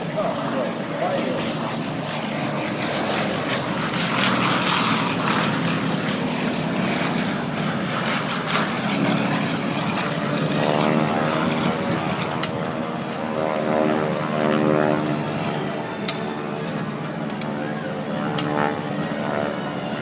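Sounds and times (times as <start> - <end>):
propeller aircraft engines: 0.0 - 20.0.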